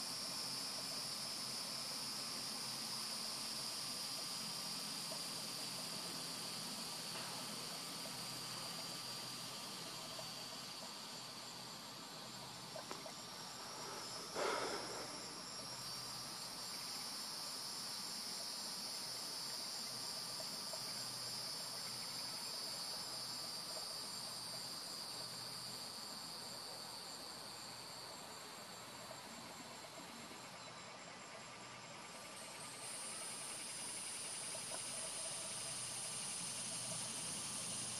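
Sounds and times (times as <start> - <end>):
insects chorus: 0.0 - 37.9.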